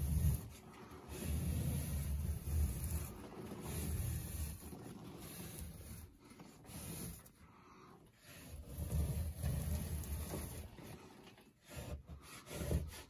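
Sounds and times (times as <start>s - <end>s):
spatula scraping ceiling texture: 0.0s - 13.0s.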